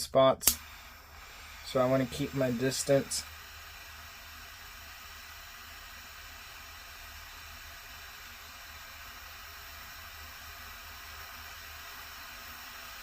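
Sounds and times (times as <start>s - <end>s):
heat tool hissing: 0.0s - 13.0s.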